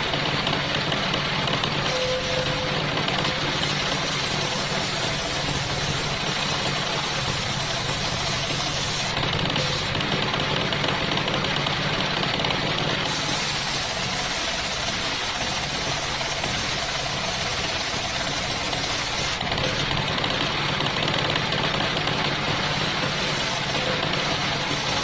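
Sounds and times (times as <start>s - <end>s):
circular sawmill engine drone: 0.0s - 25.0s.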